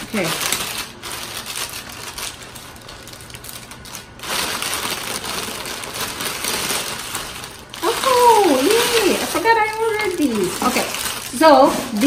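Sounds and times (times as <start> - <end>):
plastic bag crinkling and tearing: 0.0 - 12.0.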